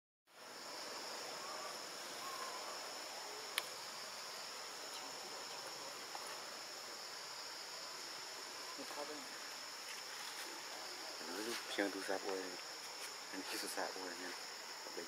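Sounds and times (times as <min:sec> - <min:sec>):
insects droning: 0:00.3 - 0:15.0.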